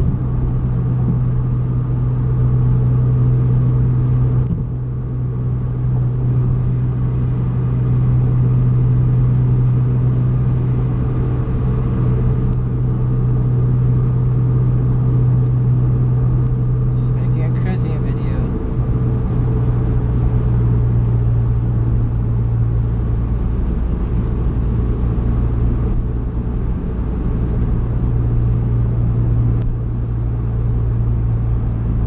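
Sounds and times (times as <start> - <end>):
car engine droning: 0.0 - 32.0
road noise: 0.0 - 32.0.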